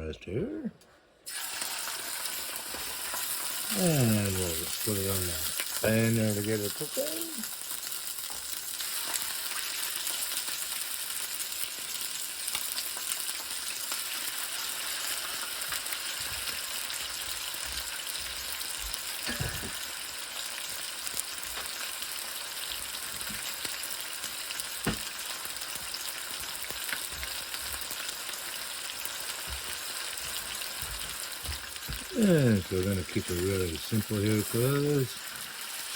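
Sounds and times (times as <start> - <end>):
chicken sizzling in a pan: 1.2 - 35.9.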